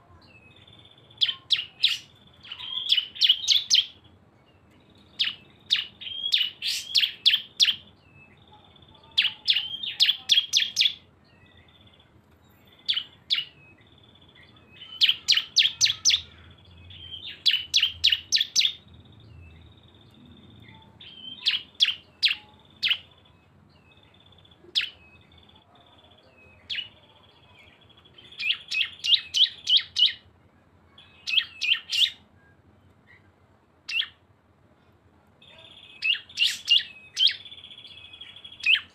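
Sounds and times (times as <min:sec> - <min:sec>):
bird chirping in sharp bursts: 0:00.0 - 0:30.3, 0:30.9 - 0:32.3, 0:33.9 - 0:34.2, 0:35.4 - 0:38.9.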